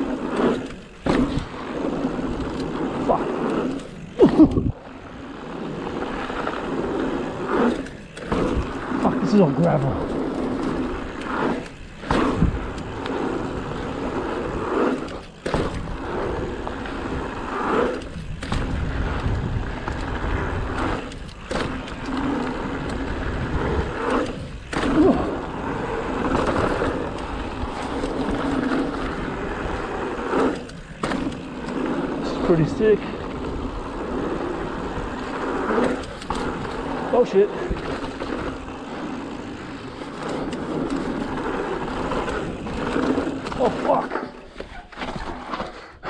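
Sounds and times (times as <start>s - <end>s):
bike rattle: 0.0s - 46.0s
bike tyres on gravel: 0.0s - 46.0s.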